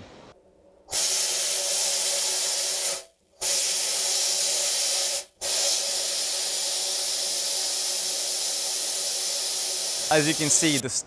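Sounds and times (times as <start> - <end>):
harsh abrasion hiss: 0.9 - 10.9.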